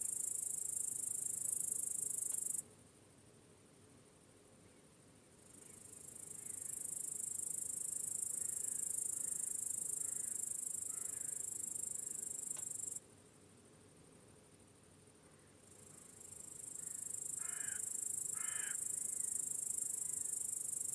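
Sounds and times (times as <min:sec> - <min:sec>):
crickets chirring: 0:00.0 - 0:02.6, 0:05.4 - 0:13.0, 0:13.8 - 0:20.9.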